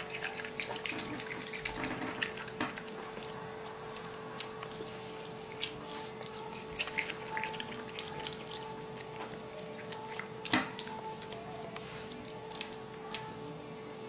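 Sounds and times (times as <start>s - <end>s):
raccoon chewing: 0.0s - 14.0s
steady hum: 0.0s - 14.0s.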